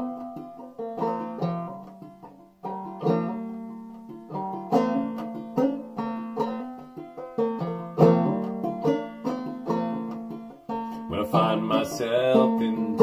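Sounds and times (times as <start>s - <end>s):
banjo melody and chords: 0.0s - 13.0s.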